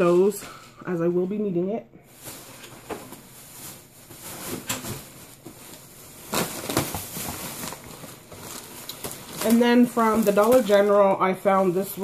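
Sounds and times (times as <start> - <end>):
plastic bag rustling: 2.0 - 12.0.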